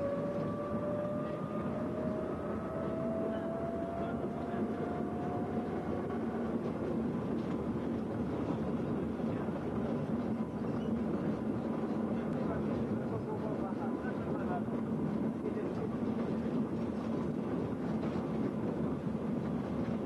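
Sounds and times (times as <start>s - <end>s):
rail trolley running on track: 0.0s - 20.0s.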